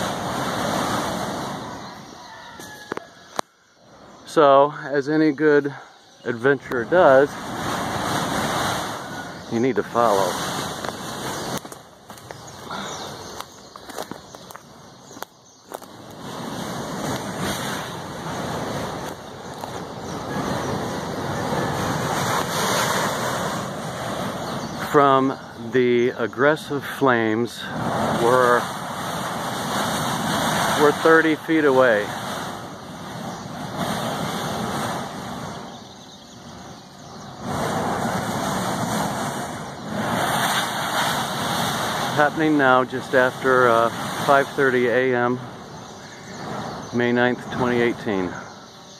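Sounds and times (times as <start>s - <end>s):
volcanic gas jetting roar: 0.0s - 48.9s.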